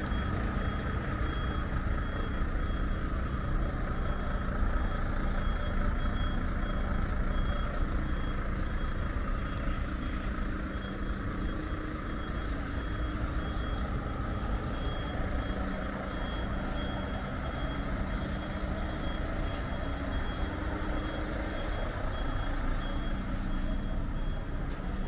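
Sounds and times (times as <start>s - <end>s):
engine rumble: 0.0s - 25.0s
reversing alarm beeping: 0.0s - 25.0s.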